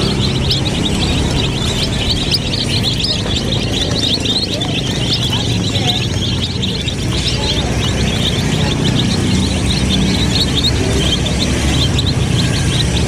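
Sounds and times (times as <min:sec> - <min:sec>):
chicks peeping: 0:00.0 - 0:13.0
low rumble: 0:00.0 - 0:13.0.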